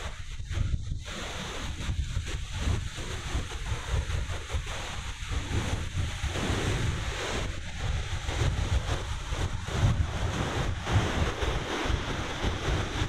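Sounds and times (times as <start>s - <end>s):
ocean surf washing ashore: 0.0s - 13.0s
wind buffeting microphone: 0.0s - 13.0s.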